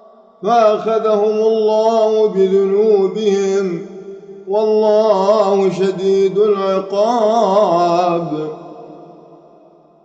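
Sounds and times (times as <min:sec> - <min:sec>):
man chanting melodic recitation: 0:00.4 - 0:09.0.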